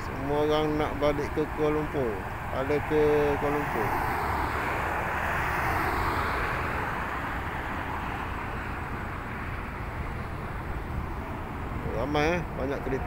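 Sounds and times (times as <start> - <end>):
low traffic rumble: 0.0 - 13.0
car passing with tyre hiss: 1.4 - 13.0.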